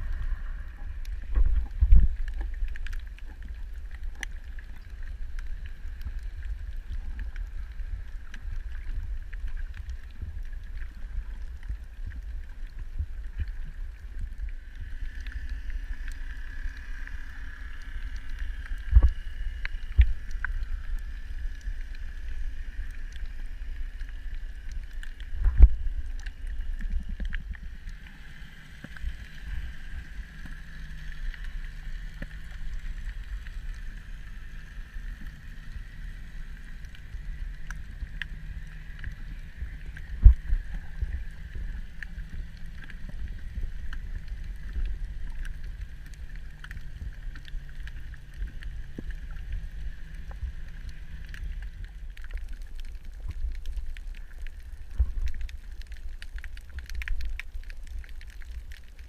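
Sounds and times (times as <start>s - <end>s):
faint clicks: 0.0s - 59.0s
steady hum: 0.0s - 59.0s
underwater water rumble: 0.0s - 59.0s.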